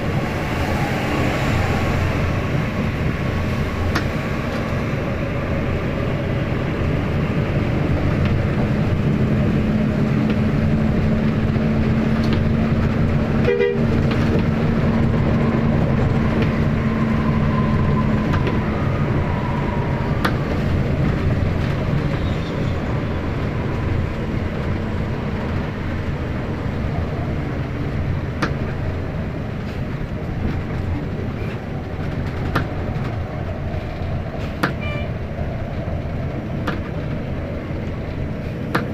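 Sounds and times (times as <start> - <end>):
bus engine and road drone: 0.0 - 38.9.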